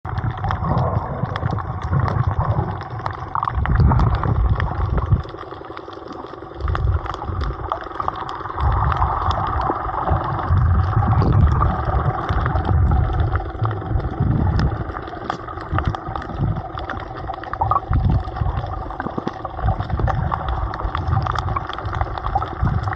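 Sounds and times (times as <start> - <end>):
underwater churning rumble: 0.0 - 22.9
crackling clicks: 0.1 - 22.9.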